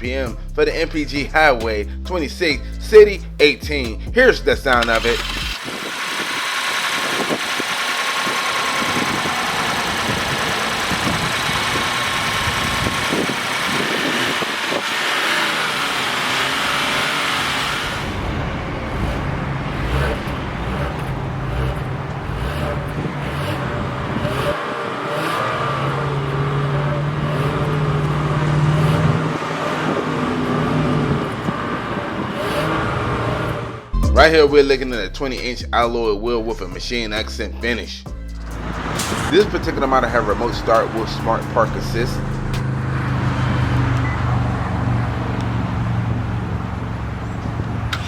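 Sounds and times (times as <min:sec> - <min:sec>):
car engine running: 0:02.9 - 0:36.0, 0:38.1 - 0:48.0
car engine revving: 0:04.2 - 0:35.5, 0:38.2 - 0:48.0.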